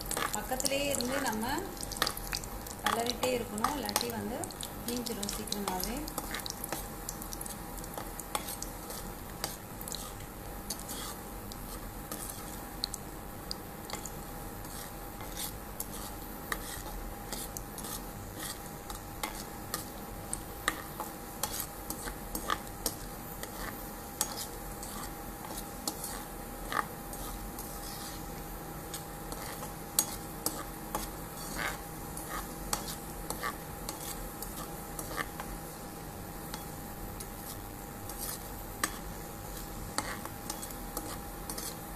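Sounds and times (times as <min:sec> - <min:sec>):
nuts sizzling in oil: 0:00.0 - 0:41.9
metal spoon scraping a pan: 0:04.9 - 0:12.6, 0:13.9 - 0:19.9, 0:20.6 - 0:35.6, 0:36.5 - 0:41.9.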